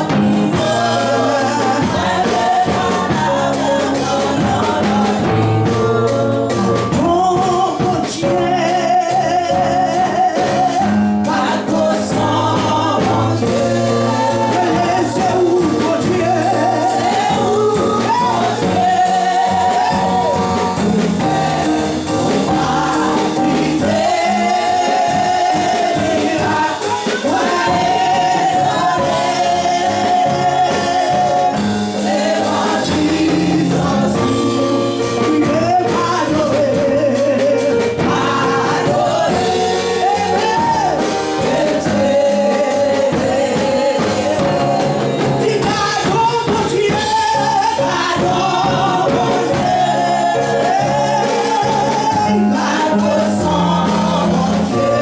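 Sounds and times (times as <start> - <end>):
gospel music with singers and band: 0.0 - 55.0.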